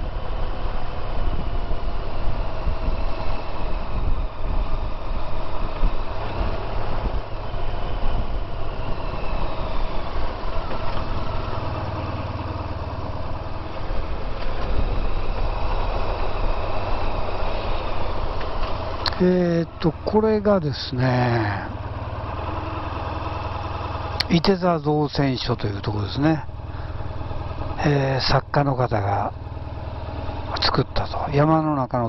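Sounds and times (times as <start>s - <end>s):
motorcycle engine rumbling: 0.0s - 32.0s.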